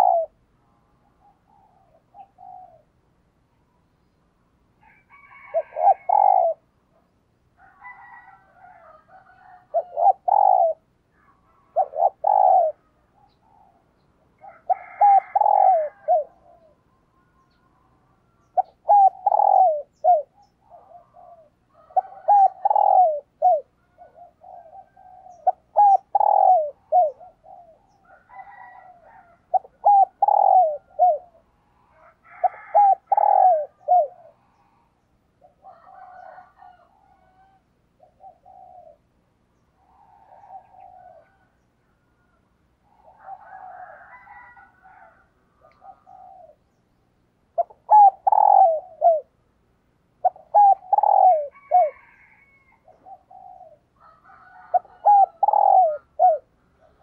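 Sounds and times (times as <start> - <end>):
dove cooing: 0.0 - 3.0, 4.8 - 46.8, 47.5 - 49.4, 50.2 - 57.0.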